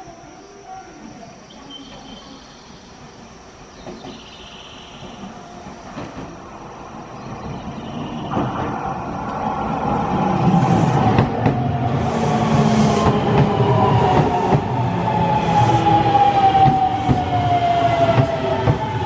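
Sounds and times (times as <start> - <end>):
electric train rumble: 0.0 - 19.0
train hum: 0.0 - 19.0.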